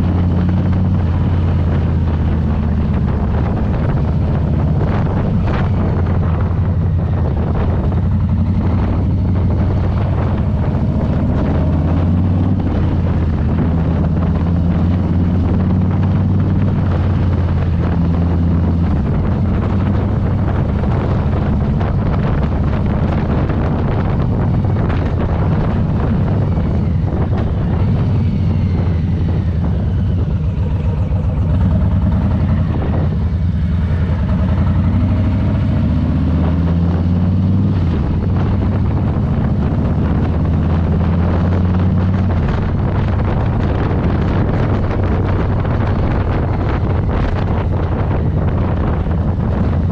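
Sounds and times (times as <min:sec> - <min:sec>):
motorcycle engine running at low revs: 0:00.0 - 0:49.9.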